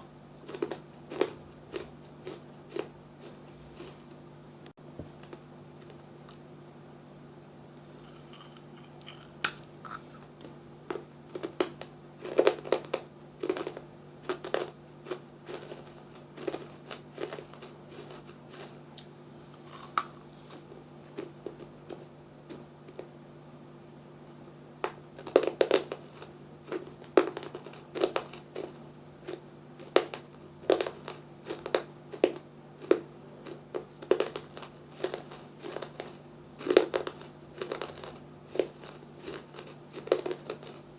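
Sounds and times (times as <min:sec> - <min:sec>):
crunching clay with teeth: 0:00.0 - 0:04.1, 0:07.8 - 0:23.1, 0:24.8 - 0:40.9
faint low hum: 0:00.0 - 0:40.9.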